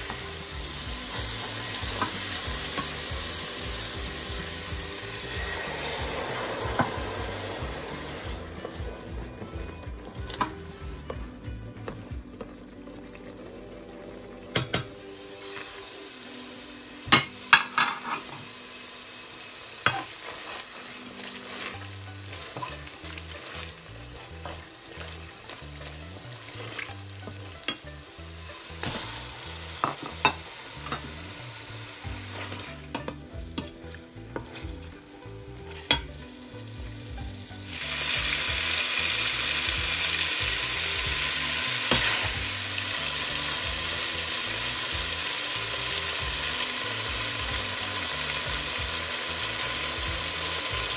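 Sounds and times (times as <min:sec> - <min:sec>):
food sizzling in hot oil: 0:00.0 - 0:50.9.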